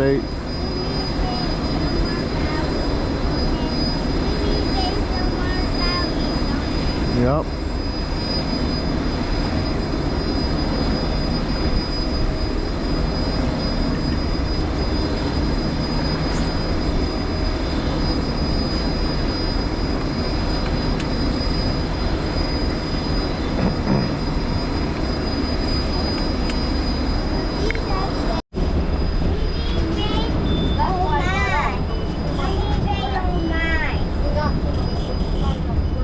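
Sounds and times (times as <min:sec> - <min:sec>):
machinery drone: 0:00.0 - 0:36.0
rushing wind-like noise: 0:00.0 - 0:36.0
thin high whine: 0:00.0 - 0:36.0.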